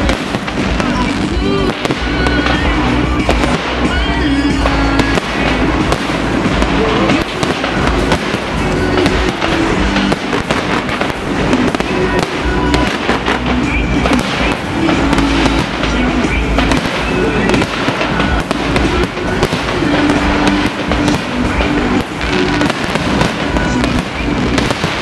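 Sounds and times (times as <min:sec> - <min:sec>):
fireworks bangs and crackles: 0:00.0 - 0:25.0
low rumble: 0:00.0 - 0:25.0
music playing: 0:00.0 - 0:25.0.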